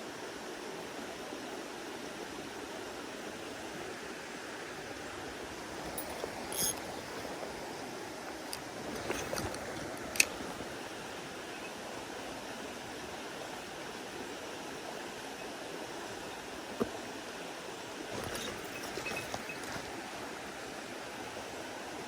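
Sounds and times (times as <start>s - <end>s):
mountain stream running: 0.0s - 22.0s.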